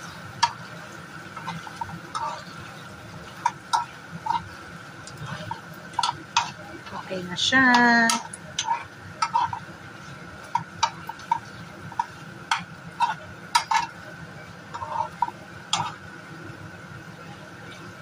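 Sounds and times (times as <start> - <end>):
metal spoon scraping a pan: 0.0 - 16.0.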